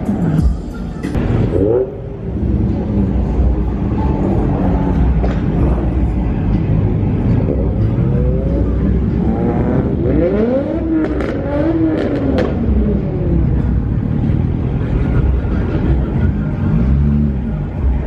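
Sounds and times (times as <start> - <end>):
car engine revving: 1.2 - 18.0.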